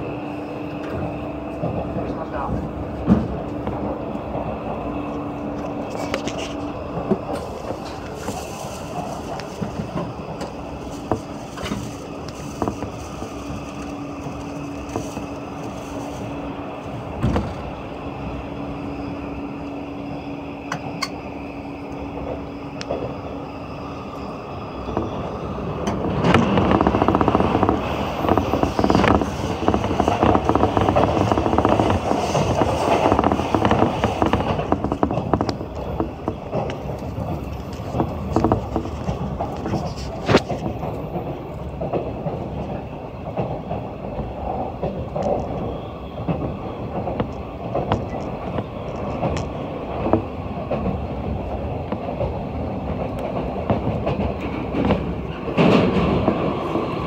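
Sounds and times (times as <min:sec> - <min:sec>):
train wheels rumbling on rail: 0:00.0 - 0:57.0
rail-joint clacks: 0:00.7 - 0:19.8, 0:20.6 - 0:23.4, 0:24.1 - 0:57.0.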